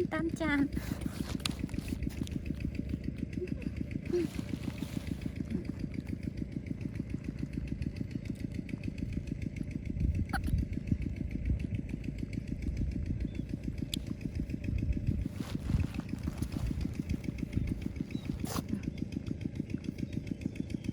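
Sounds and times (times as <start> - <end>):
small engine pulsing: 0.0 - 20.9.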